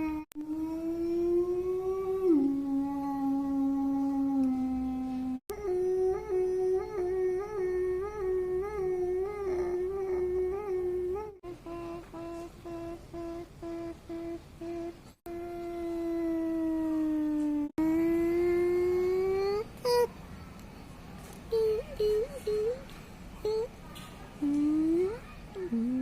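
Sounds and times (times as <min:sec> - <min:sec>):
person humming nasal notes: 0:00.0 - 0:20.1, 0:21.5 - 0:22.8, 0:23.4 - 0:23.7, 0:24.4 - 0:26.0.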